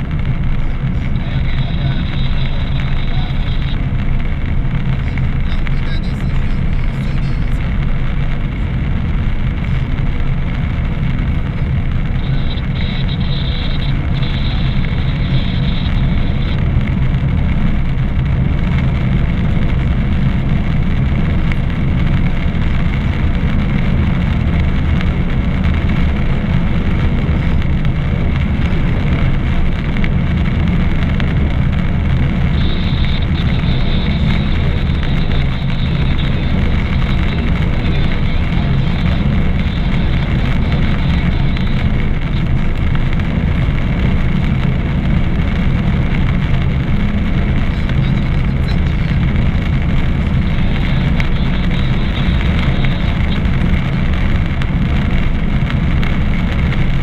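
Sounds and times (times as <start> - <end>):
car engine hum: 0.0 - 57.0
tyre noise on wet road: 0.0 - 57.0.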